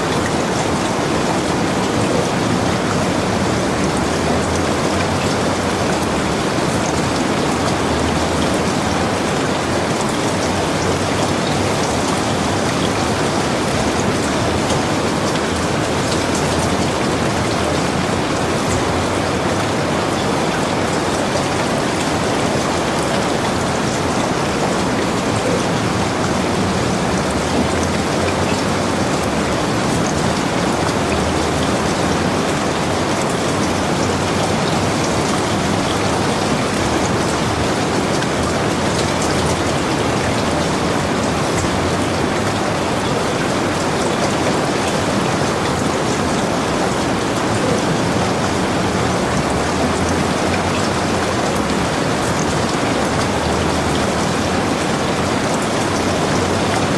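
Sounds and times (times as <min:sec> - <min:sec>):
heavy rain falling: 0:00.0 - 0:56.9
raindrops ticking: 0:00.0 - 0:56.9.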